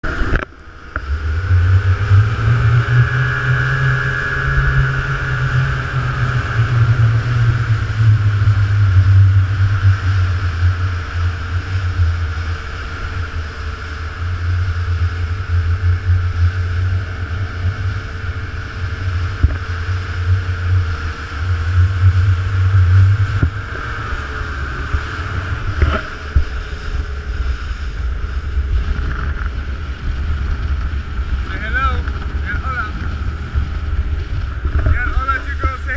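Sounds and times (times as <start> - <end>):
motorboat engine rumbling: 0.0 - 35.9.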